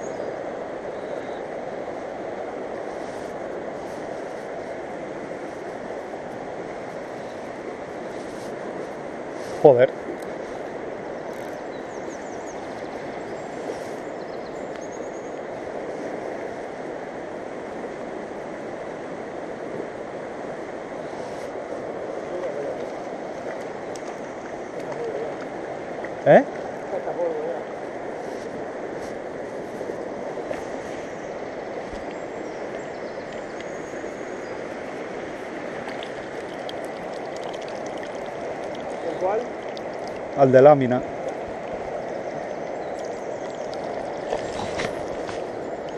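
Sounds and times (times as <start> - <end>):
fast river rushing: 0.0 - 45.9.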